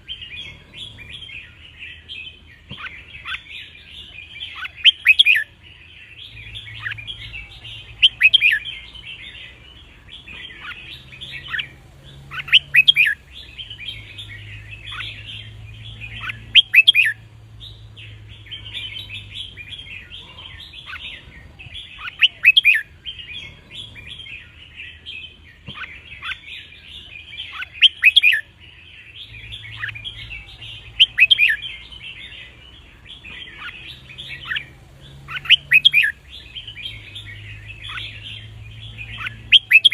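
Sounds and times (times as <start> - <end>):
twittering chatter: 0.0 - 39.9.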